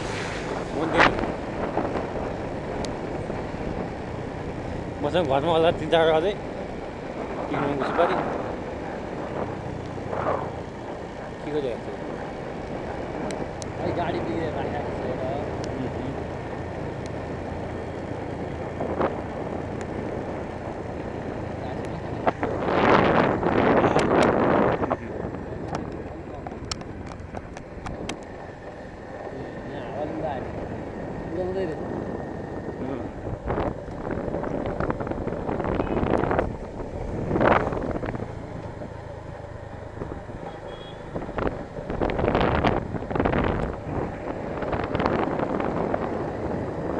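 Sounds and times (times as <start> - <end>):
motorbike riding rumble: 0.0 - 46.9
wind buffeting microphone: 0.0 - 46.9.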